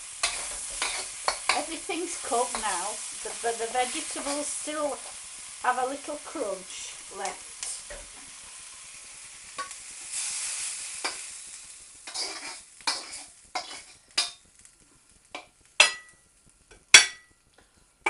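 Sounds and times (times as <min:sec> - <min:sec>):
utensil scraping and knocking wok: 0:00.0 - 0:17.4
food sizzling in a wok: 0:00.0 - 0:18.0.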